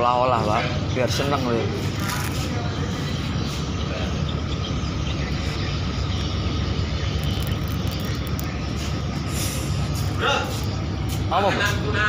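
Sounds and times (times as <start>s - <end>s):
ship engine drone: 0.0s - 12.0s.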